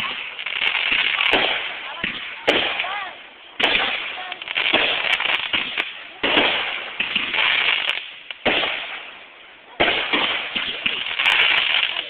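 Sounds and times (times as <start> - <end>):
crackling pops: 0.0 - 12.0
fireworks bangs: 0.0 - 12.0.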